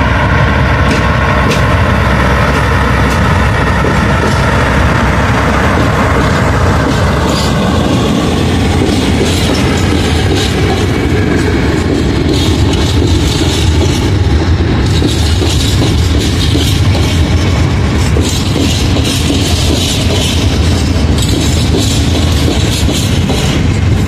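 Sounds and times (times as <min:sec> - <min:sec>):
freight train rumbling past: 0:00.0 - 0:24.0
wheels clattering on track: 0:00.6 - 0:24.0.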